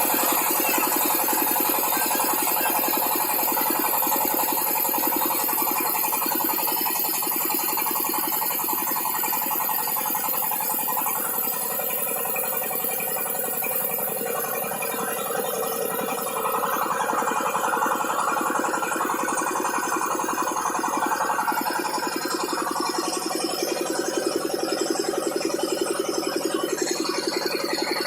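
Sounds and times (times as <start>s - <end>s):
drilling rig motor rattling: 0.0s - 28.0s.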